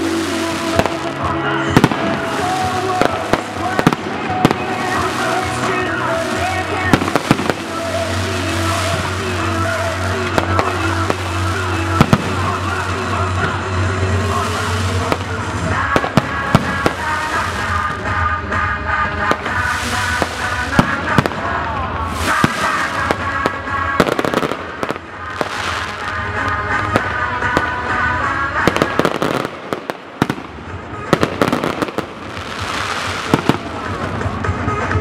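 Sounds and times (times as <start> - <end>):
fireworks bangs and crackling: 0.0 - 35.0
music playing: 0.0 - 35.0.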